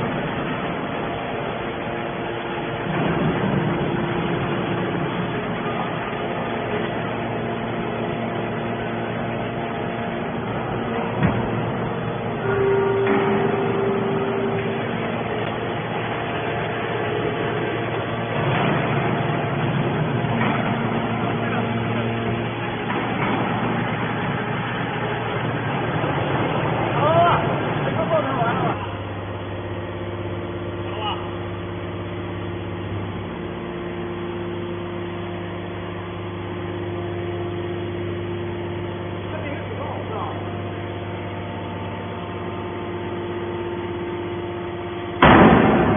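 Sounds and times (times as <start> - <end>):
hydraulic baler mechanical drone: 0.0 - 45.9.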